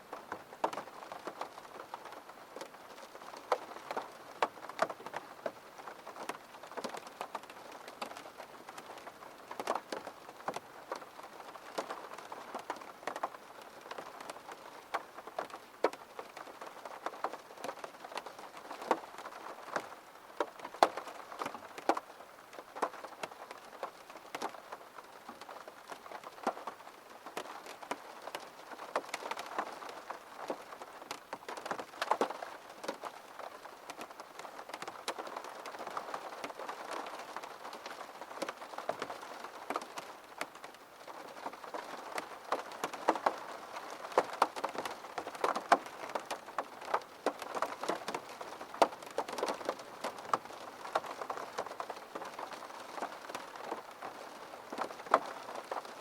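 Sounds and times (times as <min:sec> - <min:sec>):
rain ticking on window glass: 0:00.0 - 0:56.0.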